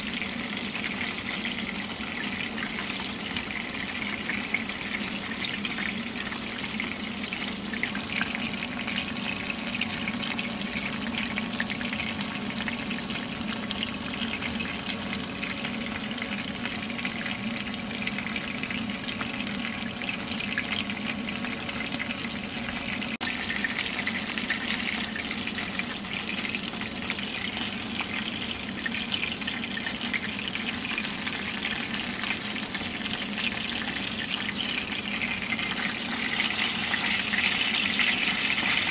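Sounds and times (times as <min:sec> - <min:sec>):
chicken frying in oil: 0:00.0 - 0:38.9.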